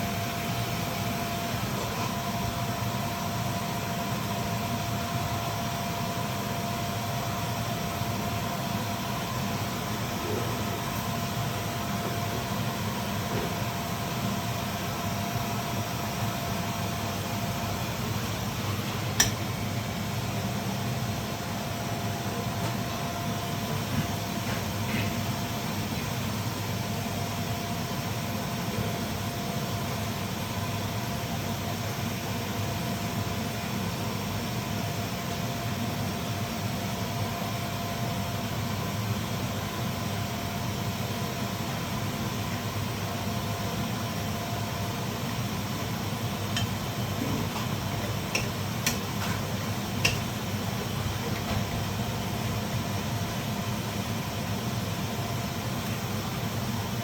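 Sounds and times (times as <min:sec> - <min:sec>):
mechanical hum with high whine: 0:00.0 - 0:57.0.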